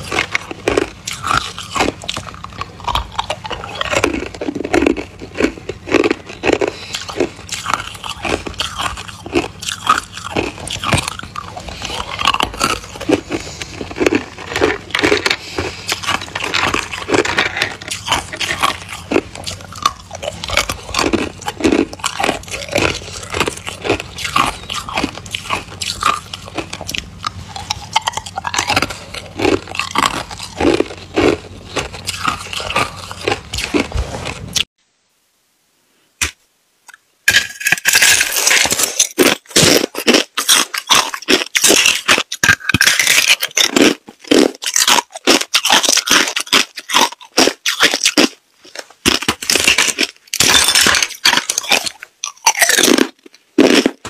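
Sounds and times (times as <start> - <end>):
ice being chewed: 0.0 - 34.7, 37.3 - 54.0.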